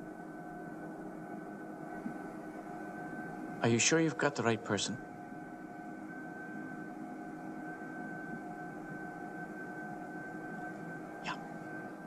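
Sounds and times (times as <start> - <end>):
background hiss and hum: 0.0 - 12.0
thin high whine: 0.0 - 12.0.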